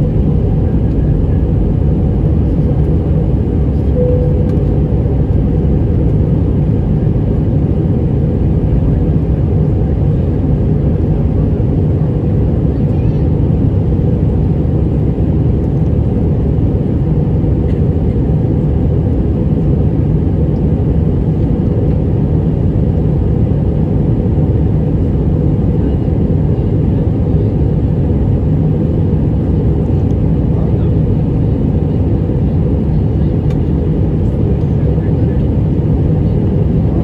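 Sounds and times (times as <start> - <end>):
jet engines roaring in cabin: 0.0 - 37.0.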